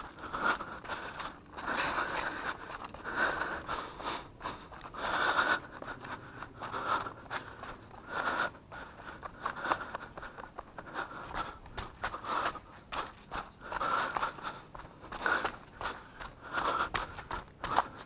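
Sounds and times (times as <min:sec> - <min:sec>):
heavy breathing: 0:00.0 - 0:18.0.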